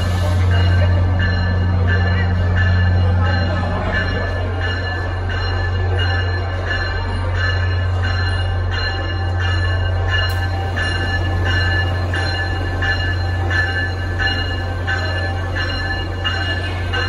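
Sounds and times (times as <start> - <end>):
low hum of idling trains: 0.0 - 17.0
train bell ringing: 0.0 - 17.0.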